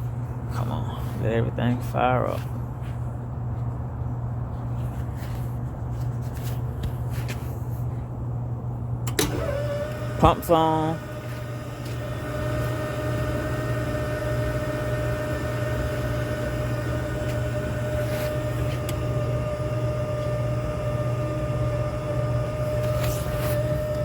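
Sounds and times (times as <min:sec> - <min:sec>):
pump machine hum with whine: 0:02.4 - 0:24.0.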